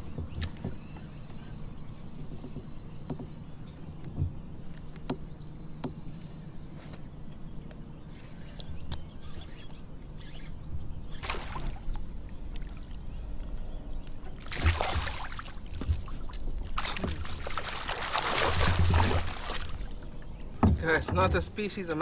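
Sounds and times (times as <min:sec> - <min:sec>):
water splashing and sloshing: 0:00.0 - 0:07.0, 0:10.2 - 0:22.0.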